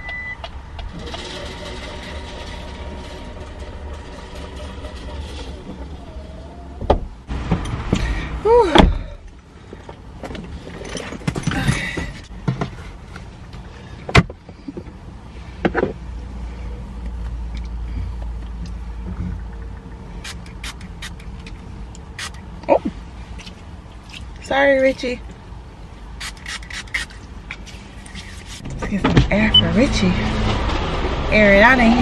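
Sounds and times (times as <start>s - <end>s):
car low rumble: 0.0s - 32.0s.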